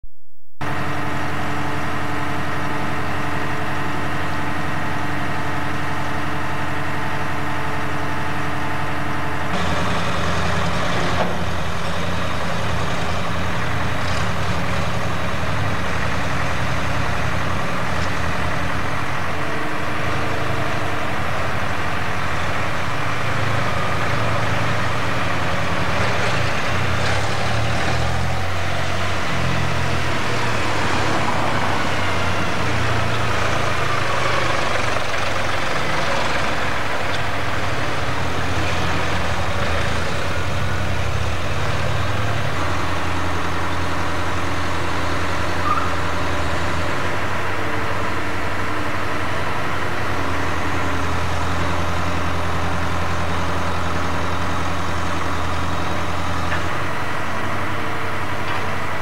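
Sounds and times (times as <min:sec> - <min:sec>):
diesel engine running: 0:00.1 - 0:59.0.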